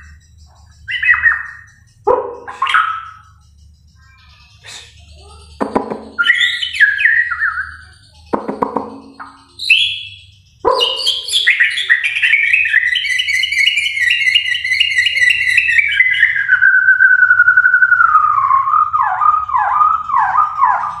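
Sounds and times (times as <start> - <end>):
bird singing trills and whistles: 0.0 - 21.0.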